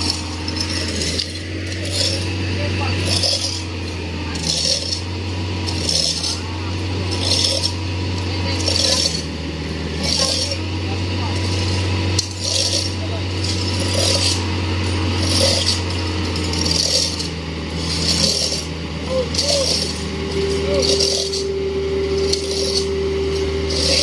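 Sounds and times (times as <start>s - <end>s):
diesel engine running: 0.0s - 24.0s
metallic scraping and clinking: 0.0s - 24.0s.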